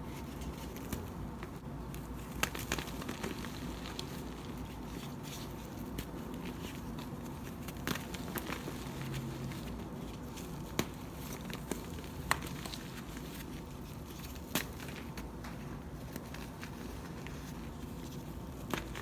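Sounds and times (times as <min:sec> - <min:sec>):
crumbly blocks crackling when crushed: 0:00.2 - 0:19.0.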